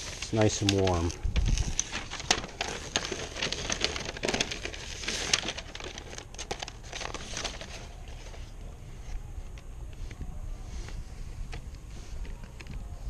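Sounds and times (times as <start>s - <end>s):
membrane sheet crinkling: 0.0s - 13.0s.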